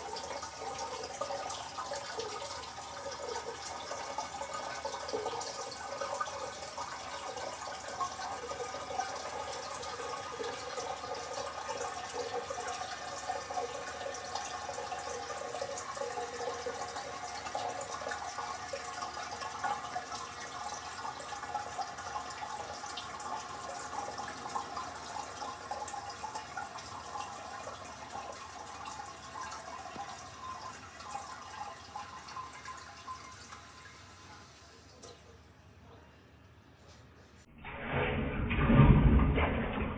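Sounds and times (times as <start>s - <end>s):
toilet tank refilling: 0.0s - 35.6s, 37.6s - 39.9s.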